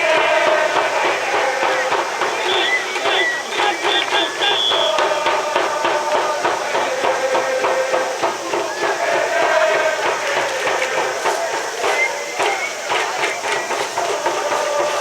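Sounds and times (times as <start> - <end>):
crowd chanting: 0.0 - 15.0
rapid claps or drum strikes: 0.0 - 15.0.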